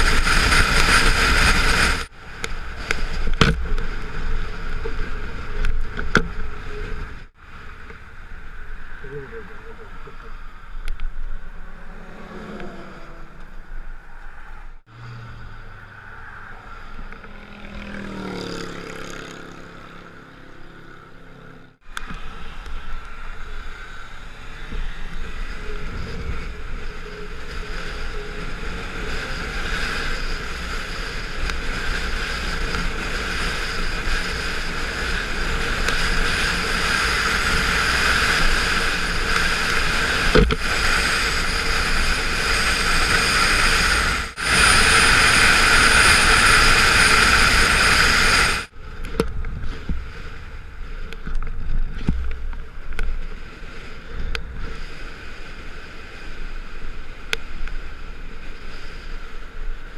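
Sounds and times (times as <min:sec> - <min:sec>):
wind rushing over microphone: 0:00.0 - 0:20.6, 0:21.7 - 0:59.9
motorcycle road noise: 0:00.0 - 0:59.9
passing traffic: 0:00.0 - 0:59.9.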